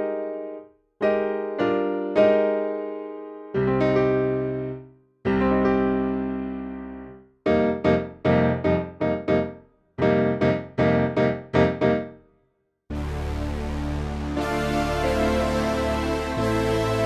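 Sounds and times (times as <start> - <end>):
electric piano chords: 0.0 - 12.2, 12.9 - 17.0.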